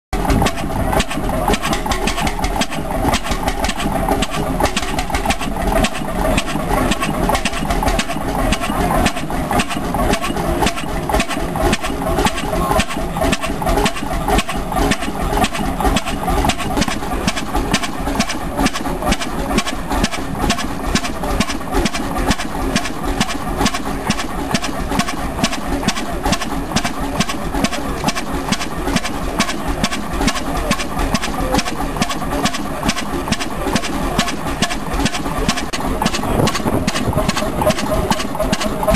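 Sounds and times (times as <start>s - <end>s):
stationary engine running: 0.2s - 38.9s.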